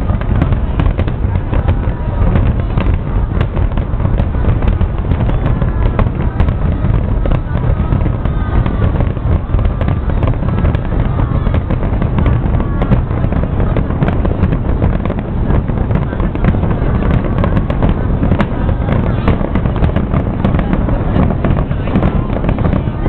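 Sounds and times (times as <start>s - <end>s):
continuous low rumble: 0.0s - 23.0s
fireworks booming and crackling: 0.0s - 23.0s.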